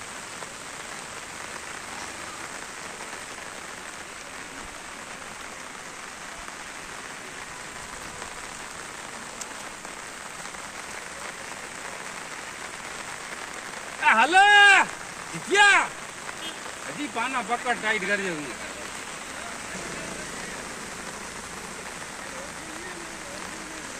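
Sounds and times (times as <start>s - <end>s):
heavy rain on wet roads: 0.0s - 23.9s.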